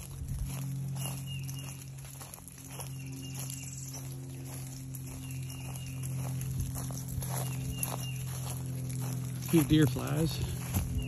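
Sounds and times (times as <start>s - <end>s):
footsteps on sand: 0.0s - 11.0s.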